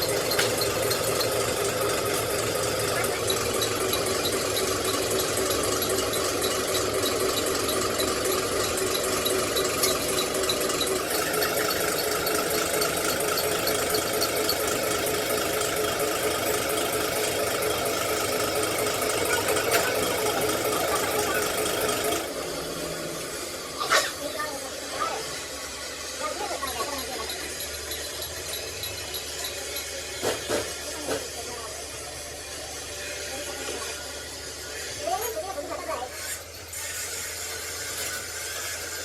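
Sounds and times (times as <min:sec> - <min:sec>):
machine running with mechanical rattle: 0:00.0 - 0:39.0.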